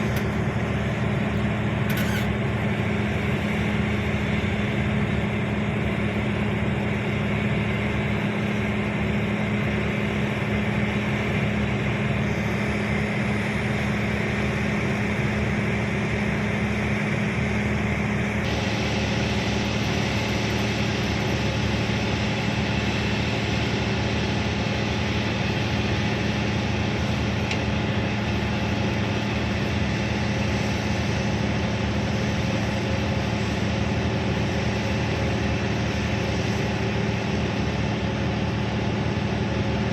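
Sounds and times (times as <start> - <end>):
excavator diesel engine drone: 0.0 - 39.9.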